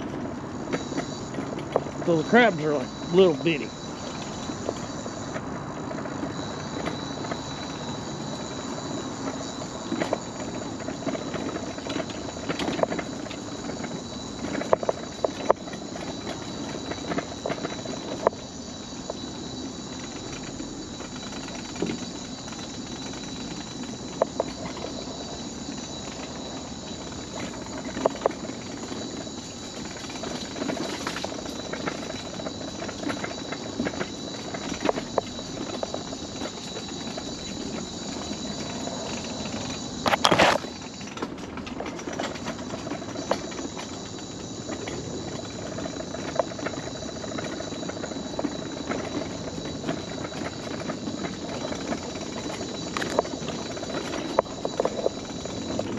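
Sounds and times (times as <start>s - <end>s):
mobility scooter motor running: 0.0s - 55.9s
wheels clacking over wooden boards: 0.0s - 55.9s.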